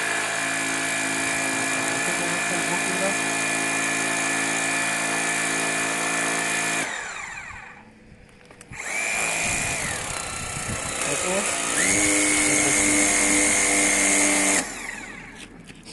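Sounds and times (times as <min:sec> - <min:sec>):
pressure washer motor whining: 0:00.0 - 0:15.8.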